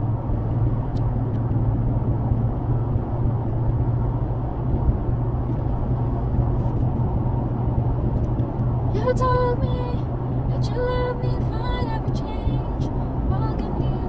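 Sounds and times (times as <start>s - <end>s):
car engine and tyre road noise: 0.0s - 14.0s.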